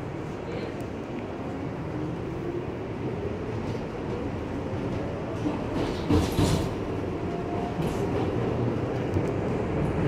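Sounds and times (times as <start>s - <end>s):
subway wheels rumbling on rails: 0.0s - 10.0s.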